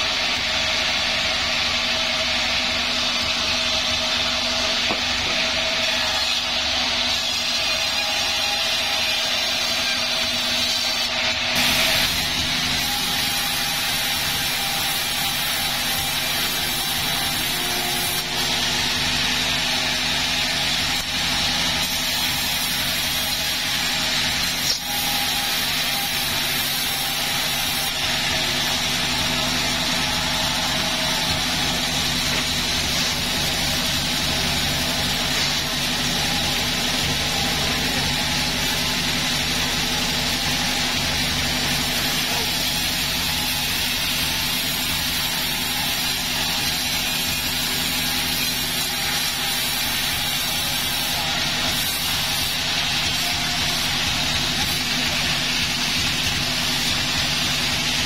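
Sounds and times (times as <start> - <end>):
sawmill saw cutting timber: 0.0 - 58.0.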